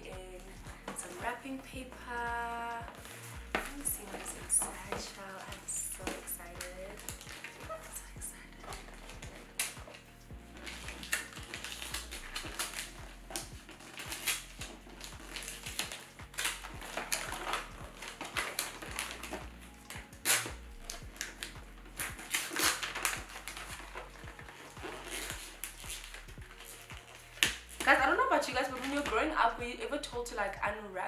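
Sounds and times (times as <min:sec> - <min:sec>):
wrapping paper crinkling: 0:00.0 - 0:29.6
soft background music: 0:00.0 - 0:31.0.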